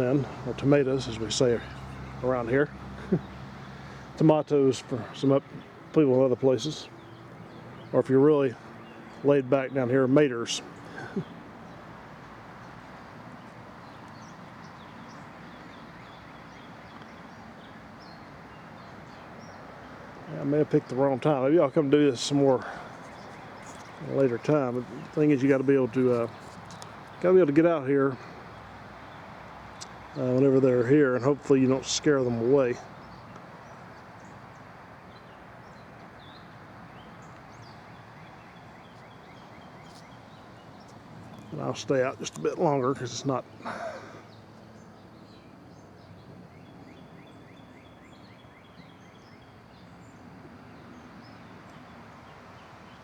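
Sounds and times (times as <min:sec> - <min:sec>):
birds chirping: 0:00.0 - 0:53.0
steady background hiss: 0:00.0 - 0:53.0.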